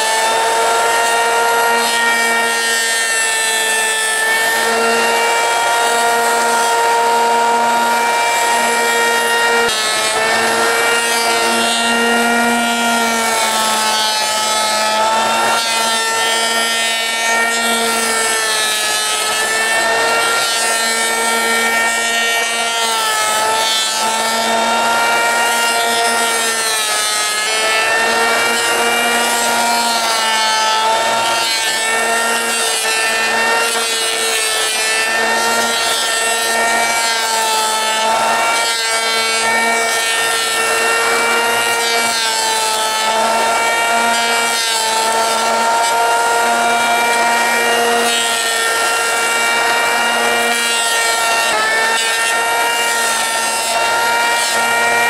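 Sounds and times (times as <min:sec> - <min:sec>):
electric hand planer whining: 0:00.0 - 0:55.0.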